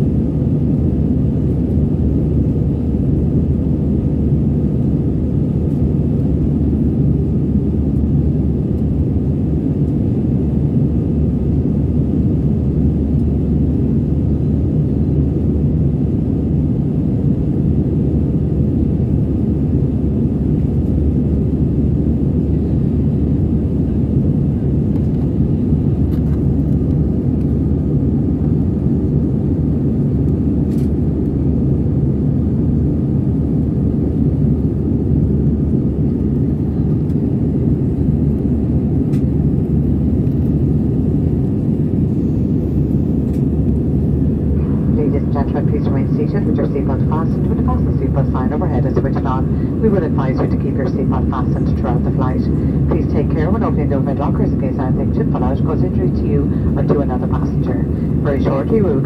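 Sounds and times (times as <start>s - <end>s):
airplane cabin drone: 0.0s - 59.0s.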